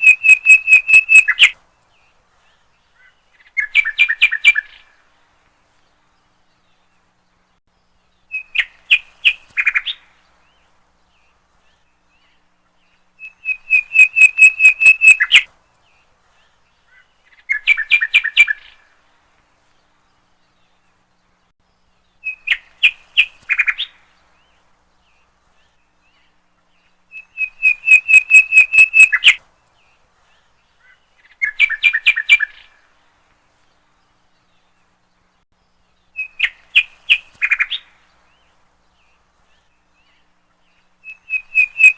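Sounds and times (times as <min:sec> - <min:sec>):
bird chirping: 0:00.0 - 0:41.9.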